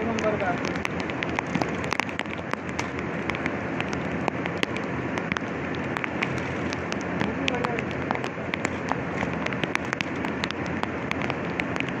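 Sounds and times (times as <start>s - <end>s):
low machinery hum: 0.0s - 12.0s
rain pattering on plastic and metal: 0.0s - 12.0s.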